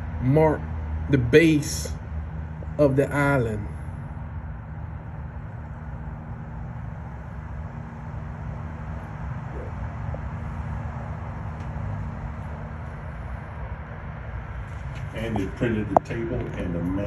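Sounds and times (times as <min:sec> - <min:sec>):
faint constant hum: 0:00.0 - 0:17.0
road traffic rumble: 0:00.0 - 0:17.0.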